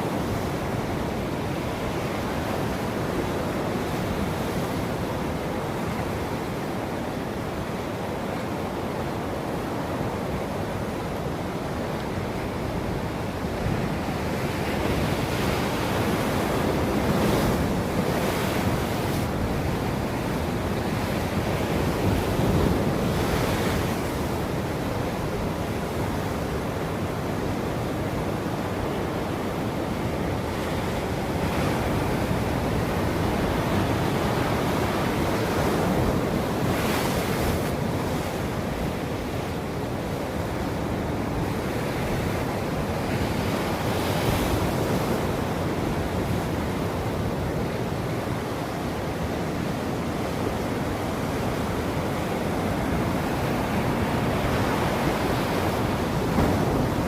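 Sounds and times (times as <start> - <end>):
ocean waves breaking on shore: 0.0 - 57.0
wind: 0.0 - 57.0.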